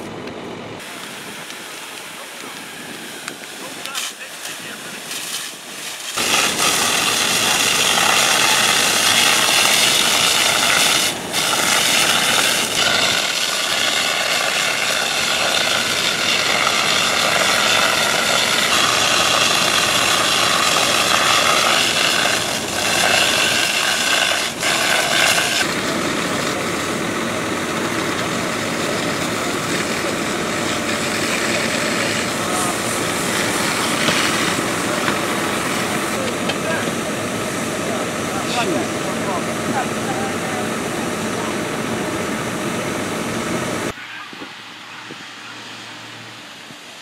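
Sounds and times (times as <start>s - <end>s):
fire engine pump drone: 0.0s - 47.0s.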